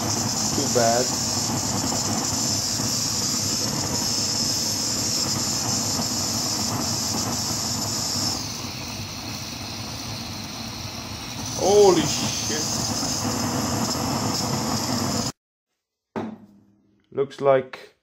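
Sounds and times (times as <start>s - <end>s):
blowtorch hissing: 0.0s - 15.4s.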